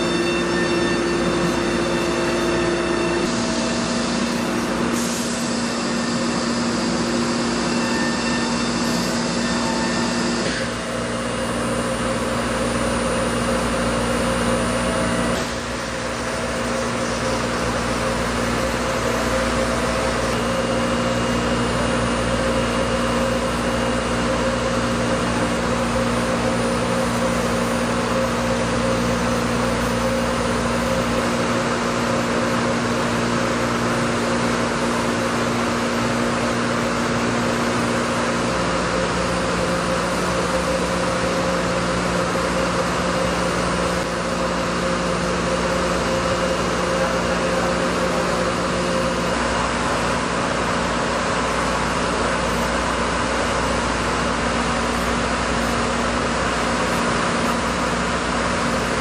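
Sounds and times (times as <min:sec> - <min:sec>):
cnc router cutting foam: 0:00.0 - 0:59.0.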